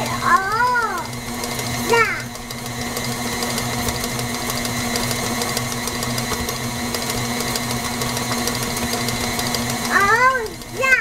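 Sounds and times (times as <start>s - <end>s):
stand mixer motor humming: 0.0s - 11.0s.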